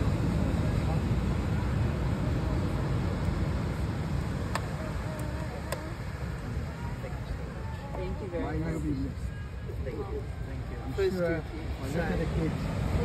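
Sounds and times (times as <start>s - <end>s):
sea surf: 0.0s - 13.0s.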